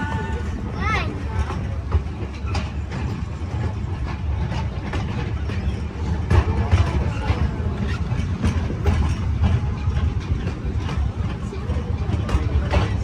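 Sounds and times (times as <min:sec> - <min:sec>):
train engine rumble: 0:00.0 - 0:13.0
wheels clicking and rattling: 0:00.0 - 0:13.0.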